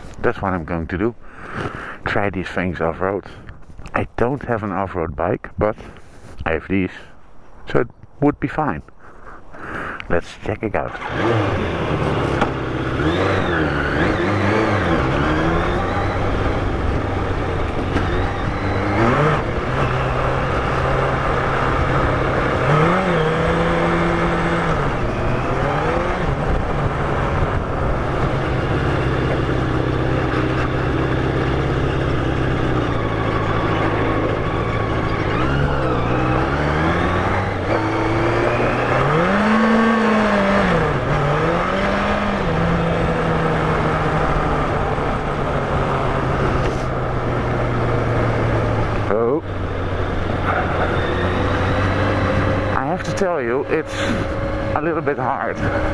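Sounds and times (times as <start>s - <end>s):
motorcycle engine revving: 10.8s - 55.9s.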